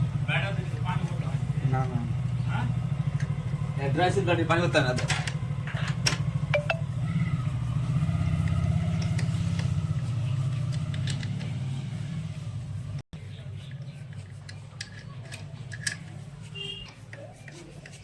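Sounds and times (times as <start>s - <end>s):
motorcycle engine running: 0.0s - 17.2s.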